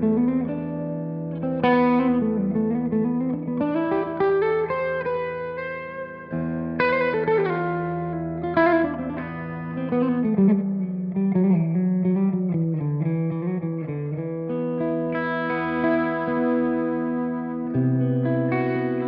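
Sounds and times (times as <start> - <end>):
electric guitar chords and notes: 0.0 - 19.0.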